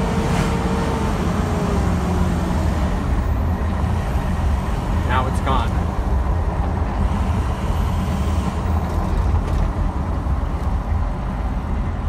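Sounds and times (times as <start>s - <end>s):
diesel engine rumble: 0.0s - 12.0s
road noise: 0.0s - 12.0s.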